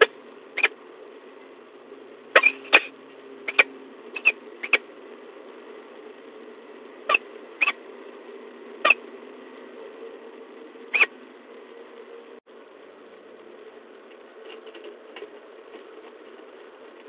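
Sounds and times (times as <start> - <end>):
low microphone hum: 0.0 - 17.0.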